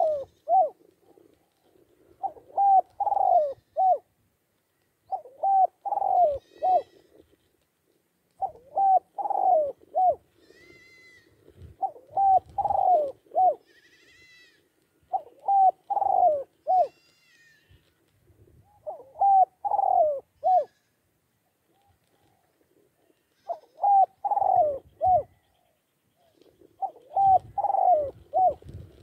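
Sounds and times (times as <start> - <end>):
dove cooing: 0.0 - 4.1, 5.0 - 7.5, 8.4 - 13.6, 15.1 - 17.0, 18.6 - 20.8, 21.7 - 29.0.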